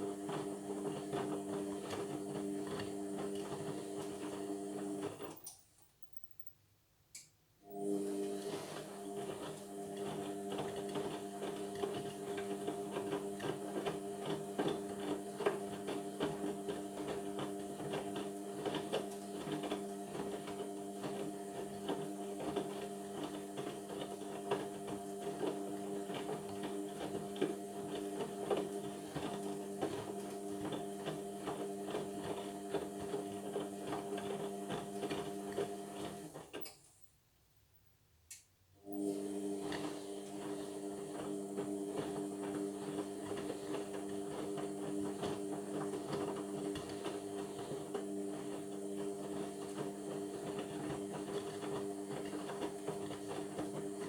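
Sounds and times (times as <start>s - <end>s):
washing machine motor hum: 0.0s - 5.4s, 7.6s - 36.6s, 38.8s - 54.0s.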